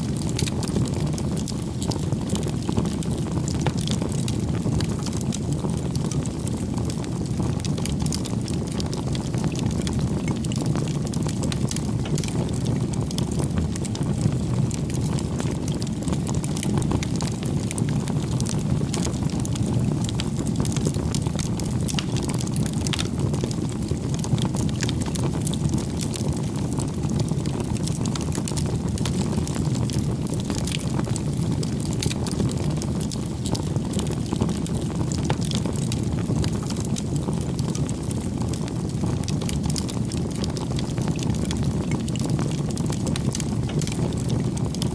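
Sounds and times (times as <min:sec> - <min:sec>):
campfire burning: 0:00.0 - 0:44.9
wood crackling and popping: 0:00.0 - 0:44.9.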